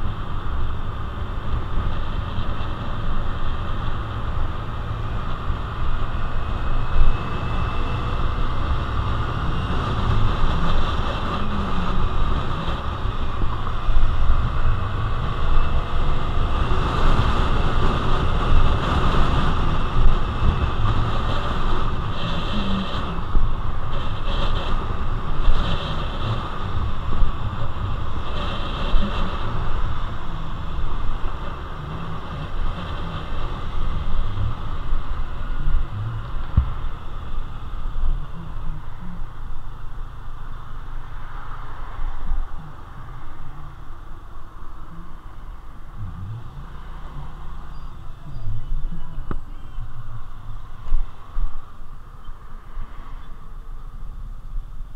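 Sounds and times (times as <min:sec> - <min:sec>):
wind buffeting microphone: 0:00.0 - 0:53.0
low road and vehicle rumble: 0:00.0 - 0:54.9.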